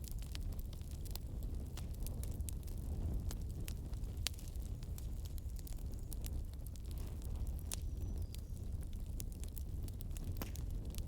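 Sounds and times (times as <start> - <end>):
low rumble of flames: 0.0 - 11.0
wood fire crackling: 0.0 - 11.0.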